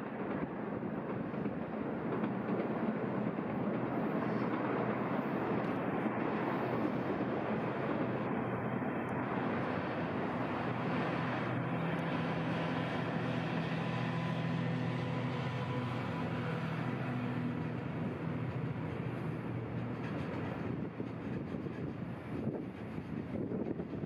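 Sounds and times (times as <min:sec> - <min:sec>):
train wheels rolling on rails: 0:00.0 - 0:24.0
locomotive engine drone: 0:00.8 - 0:24.0.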